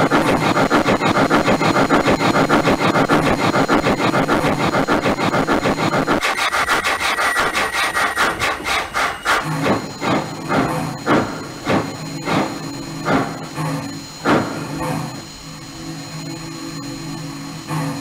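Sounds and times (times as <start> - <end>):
model steam locomotive chuffing: 0.0 - 15.2.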